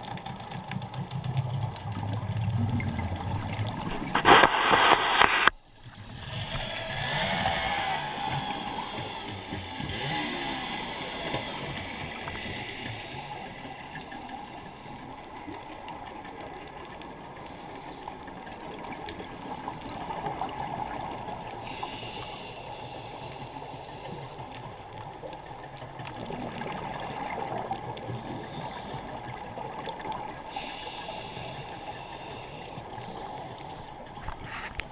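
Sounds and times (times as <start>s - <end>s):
water rushing and trickling: 0.0s - 34.9s.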